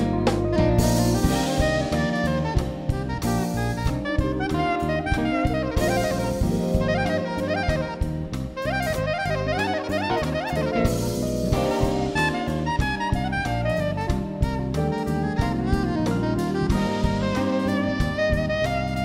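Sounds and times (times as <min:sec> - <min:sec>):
jazz-funk band playing: 0:00.0 - 0:19.0
saxophone lead line: 0:00.0 - 0:19.0.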